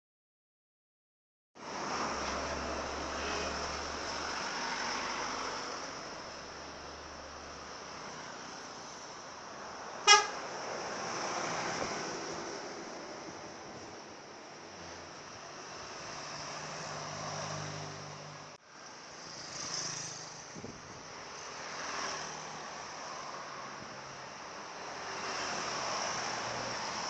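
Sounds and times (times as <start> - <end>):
vehicles passing: 1.6 - 27.0.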